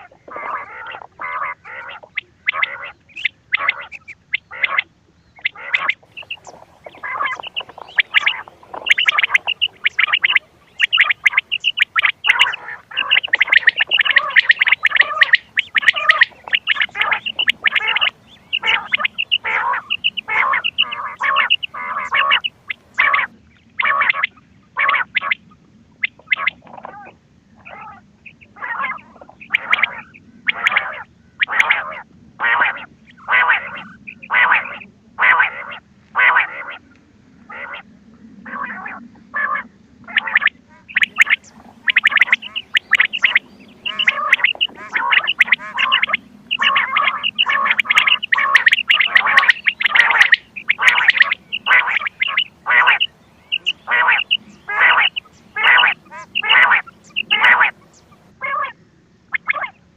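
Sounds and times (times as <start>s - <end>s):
recorded quail calls: 0.0s - 59.9s.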